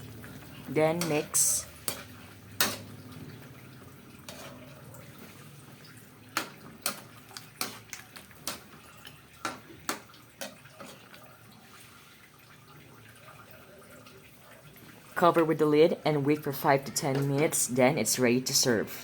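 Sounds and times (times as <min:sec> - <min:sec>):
sauce bubbling: 0:00.0 - 0:15.4.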